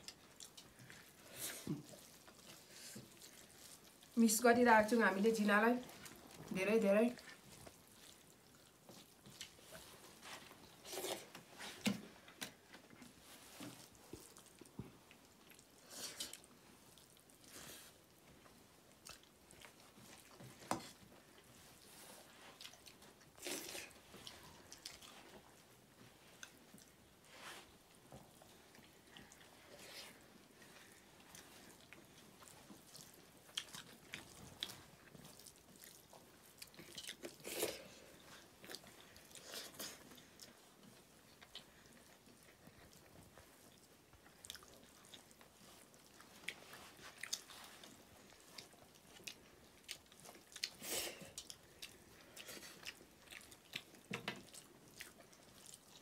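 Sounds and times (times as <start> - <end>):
people chewing: 0.0 - 4.3, 5.8 - 56.0.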